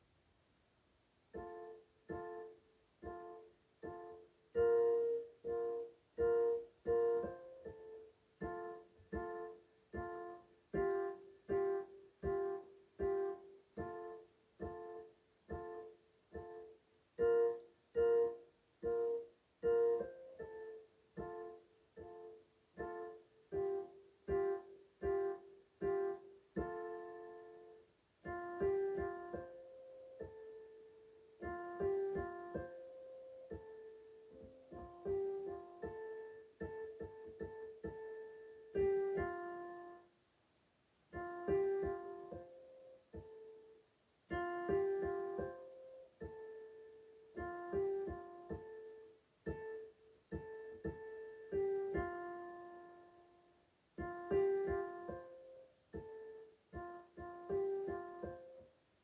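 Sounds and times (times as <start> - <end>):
keyboard piano chords: 1.3 - 40.2, 41.1 - 59.0.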